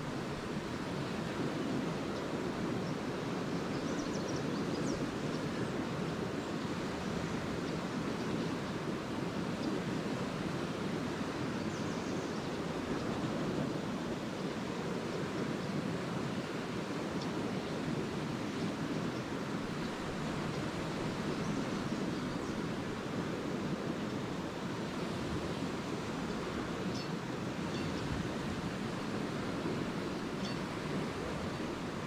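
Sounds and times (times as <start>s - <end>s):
small waves washing onto shore: 4.4s - 32.0s.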